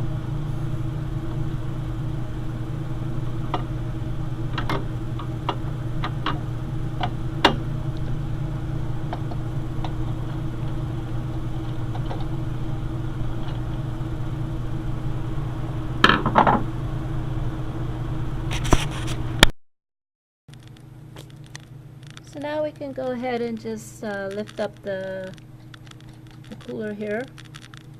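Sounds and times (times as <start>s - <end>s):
steady low hum: 0.0s - 19.5s, 20.5s - 27.9s.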